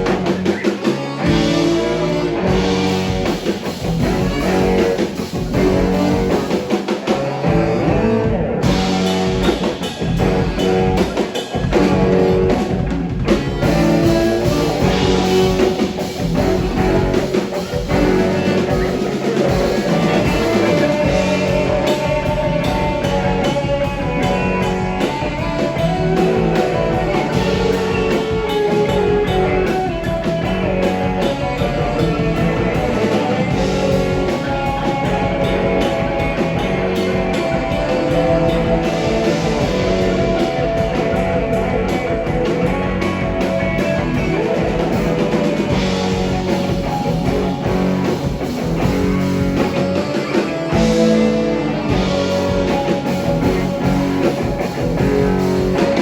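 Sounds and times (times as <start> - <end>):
drum kit: 0.0 - 56.0
electric guitar: 0.0 - 56.0
rock band playing: 0.0 - 56.0.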